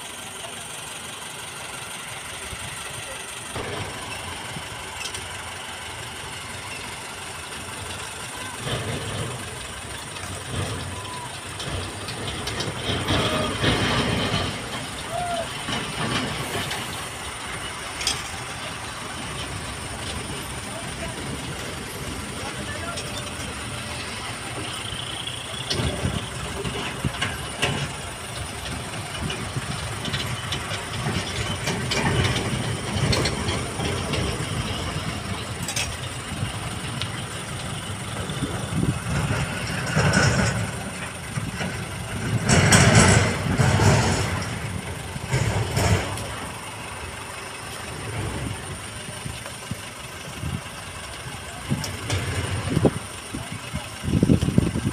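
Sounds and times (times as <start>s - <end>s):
diesel engine running: 0.0s - 54.9s
heavy trucks passing: 0.0s - 54.9s.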